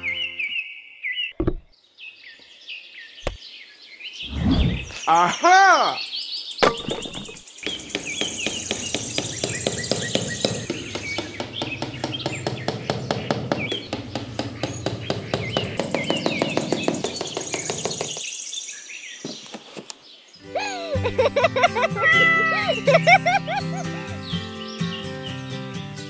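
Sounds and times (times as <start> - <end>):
birds chirping: 0.0 - 25.8.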